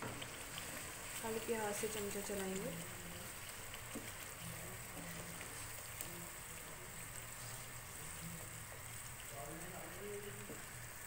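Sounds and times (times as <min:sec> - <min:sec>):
food sizzling in a wok: 0:00.0 - 0:11.0
wooden spoon stirring: 0:00.0 - 0:11.0.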